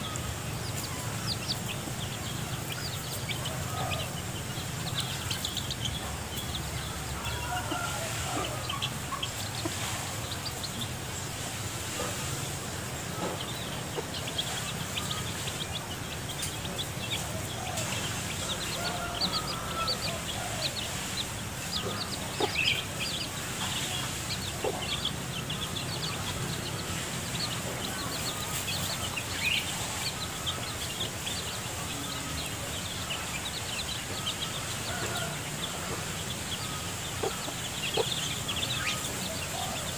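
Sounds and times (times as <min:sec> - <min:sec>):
chicks peeping: 0:00.0 - 0:39.9
hen clucking: 0:00.0 - 0:39.9
steady high hiss: 0:00.0 - 0:39.9.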